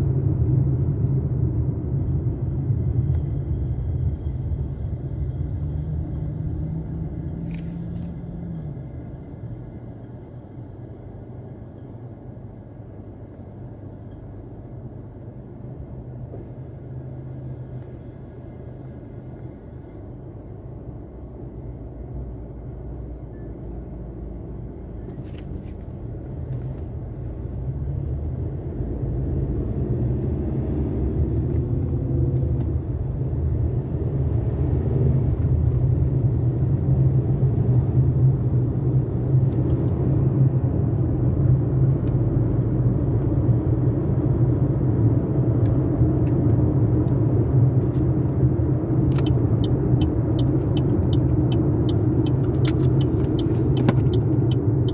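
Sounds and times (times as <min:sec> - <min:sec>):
low vehicle rumble: 0:00.0 - 0:54.9.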